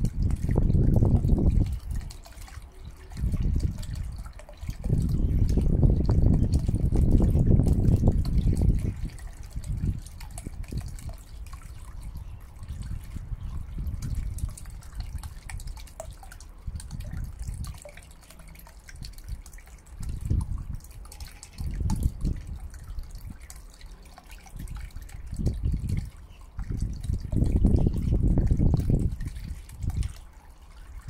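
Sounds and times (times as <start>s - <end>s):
low pump rumbles: 0.0s - 31.0s
water splashing and trickling: 0.0s - 31.0s.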